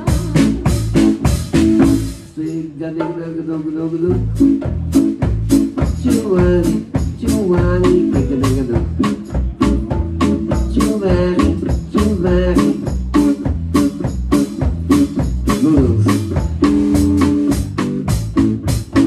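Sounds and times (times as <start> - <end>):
low bass line: 0.0 - 3.0, 3.7 - 19.0
drums and cymbals beat: 0.0 - 19.0.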